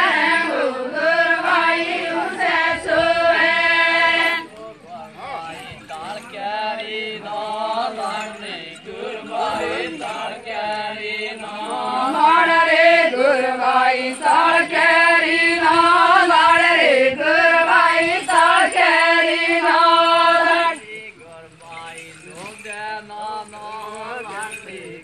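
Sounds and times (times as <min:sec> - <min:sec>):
women singing in unison: 0:00.0 - 0:25.0.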